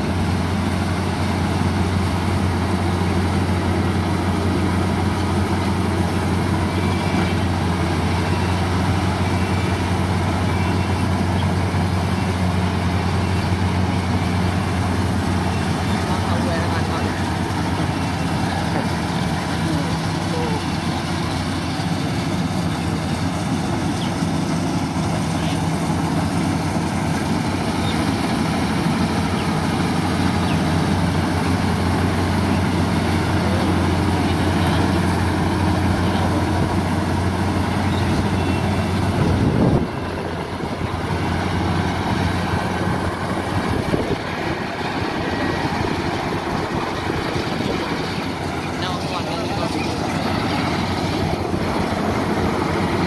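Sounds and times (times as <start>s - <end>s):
combine harvester engine running: 0.0s - 53.0s.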